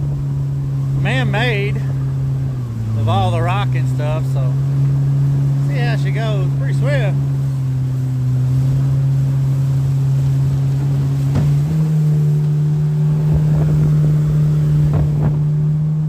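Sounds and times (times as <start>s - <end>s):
outboard jet motor humming: 0.0s - 16.0s
water rushing past hull: 0.0s - 16.0s.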